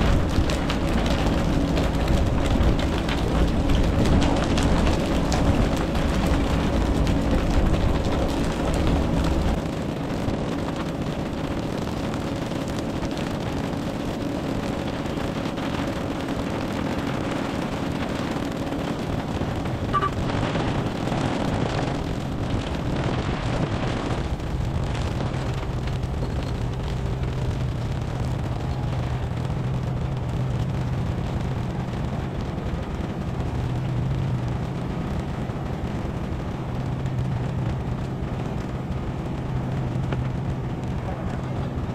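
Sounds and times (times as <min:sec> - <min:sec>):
boat engine running: 0:00.0 - 0:41.9
wind noise on microphone: 0:00.0 - 0:41.9.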